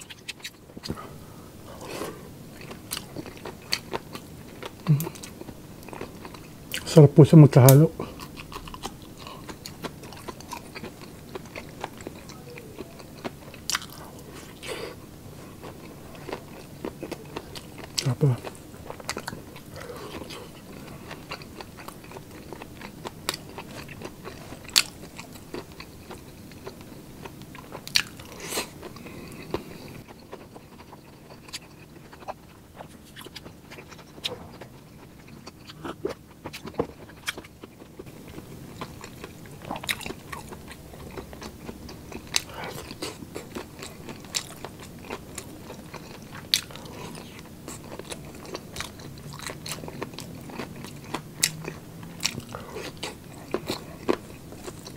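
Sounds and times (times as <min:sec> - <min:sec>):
person chewing food: 0:00.0 - 0:07.0, 0:07.6 - 0:54.9
food crunching: 0:00.0 - 0:54.9.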